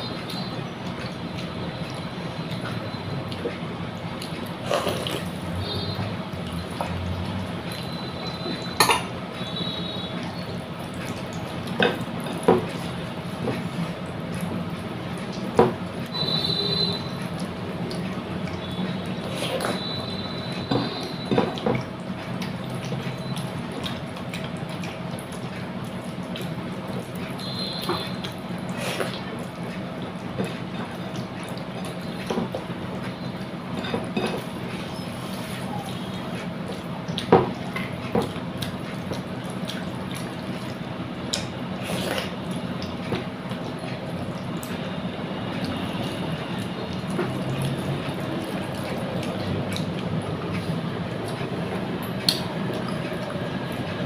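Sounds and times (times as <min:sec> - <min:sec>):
steady background hum: 0:00.0 - 0:54.0
wet chewing and mixing food: 0:00.0 - 0:54.0.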